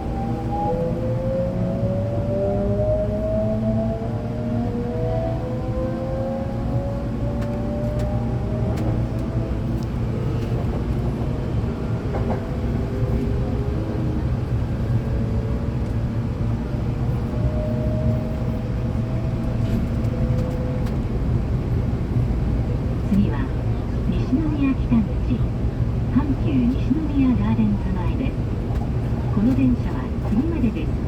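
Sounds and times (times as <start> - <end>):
train wheels rumbling on rail: 4.0 - 31.0.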